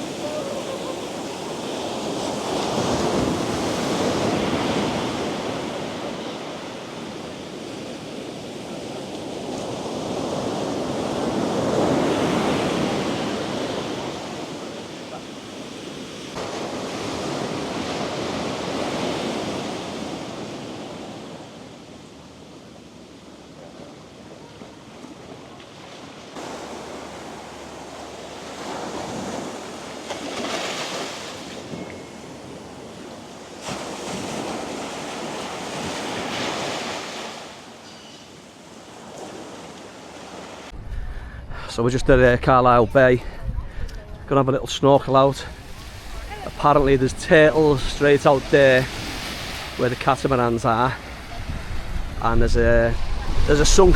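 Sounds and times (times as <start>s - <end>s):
sea waves breaking on beach: 0.0s - 40.8s, 45.1s - 53.9s.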